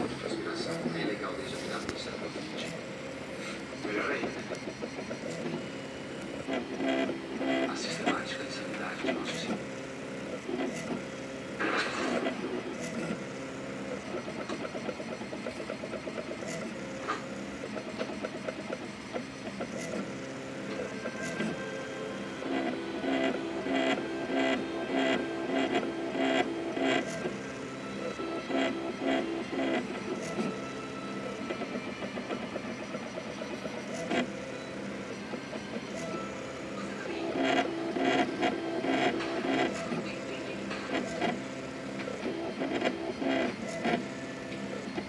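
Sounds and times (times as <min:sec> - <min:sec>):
stepper motors buzzing: 0:00.0 - 0:45.0.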